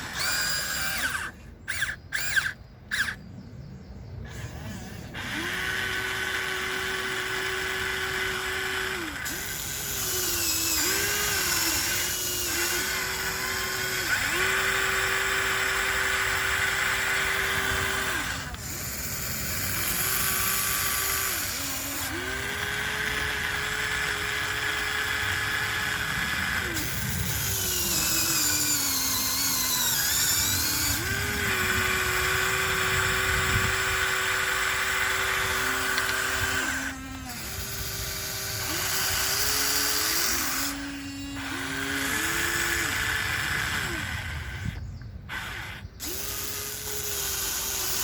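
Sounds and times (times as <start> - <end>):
toy excavator motors whining: 0.0 - 48.0.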